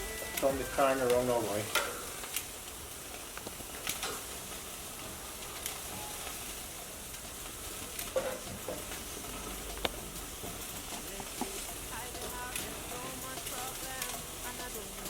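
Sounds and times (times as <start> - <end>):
food sizzling on grill: 0.0 - 15.0.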